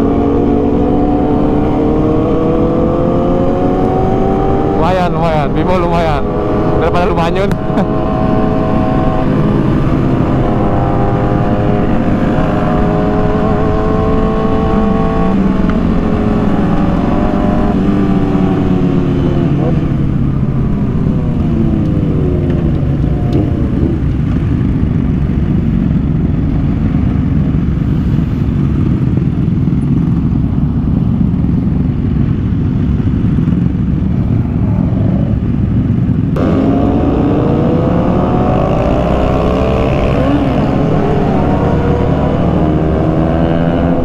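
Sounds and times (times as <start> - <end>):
motorcycle engines revving: 0.0 - 44.0
wind and road noise: 0.0 - 44.0.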